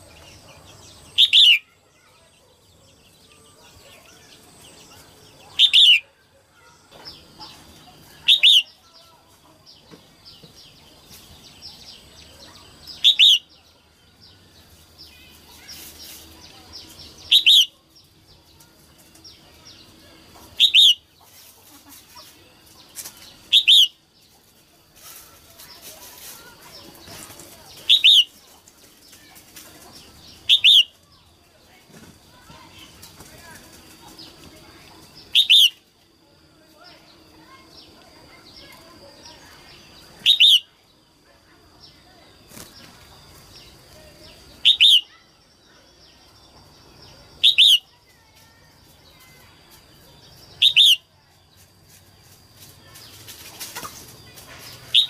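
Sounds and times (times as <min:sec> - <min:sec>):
faint bird chirps: 0:00.0 - 0:29.3, 0:29.9 - 0:31.4, 0:32.3 - 0:36.0, 0:36.7 - 0:51.7.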